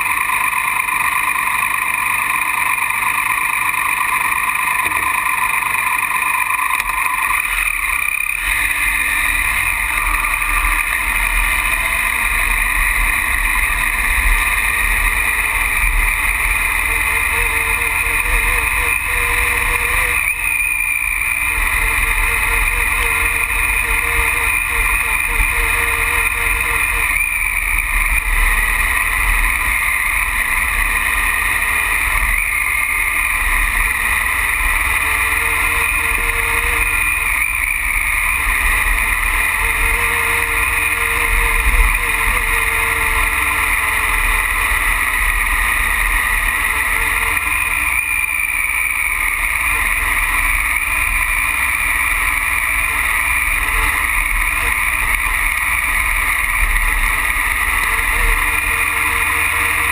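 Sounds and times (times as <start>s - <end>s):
muffled motorcycle engine: 0.0s - 59.9s.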